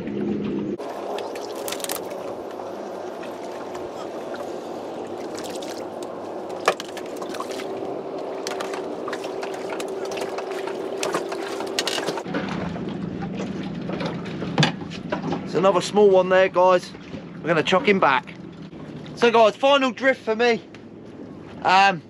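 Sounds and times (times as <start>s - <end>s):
water noise: 0.0s - 22.0s.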